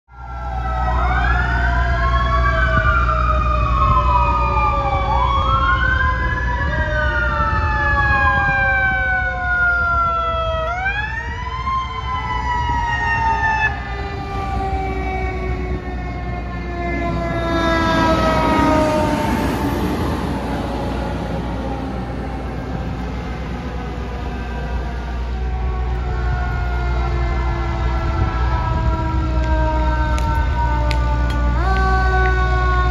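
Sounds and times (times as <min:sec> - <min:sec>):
fire engine driving past: 0:00.1 - 0:32.9
fire sirens wailing: 0:00.1 - 0:32.9.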